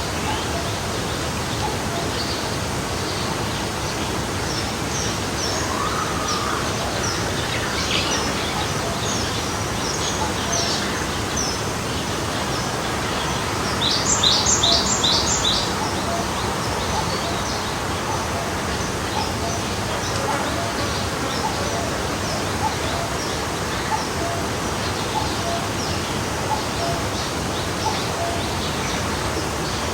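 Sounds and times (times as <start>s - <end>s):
stream flowing: 0.0s - 29.9s
songbirds chirping and whistling: 4.6s - 29.9s.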